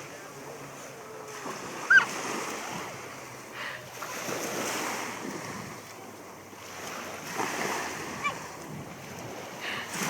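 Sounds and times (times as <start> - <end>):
small waves washing ashore: 0.0 - 10.0.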